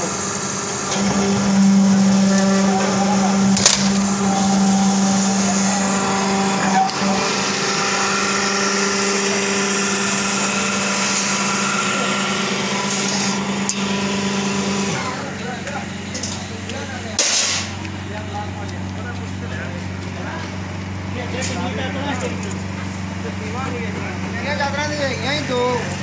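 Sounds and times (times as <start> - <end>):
pump motor hum and whine: 0.0 - 26.0.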